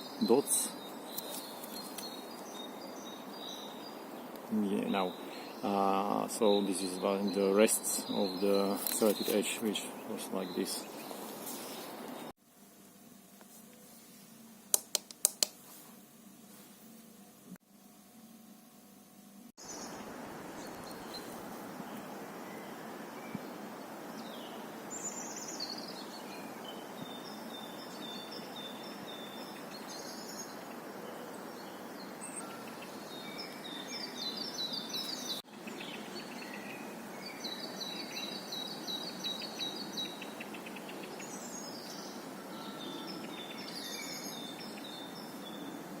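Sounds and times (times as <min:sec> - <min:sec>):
birds chirping and trilling: 0:00.0 - 0:12.3, 0:19.6 - 0:46.0
outdoor background hiss: 0:00.0 - 0:46.0.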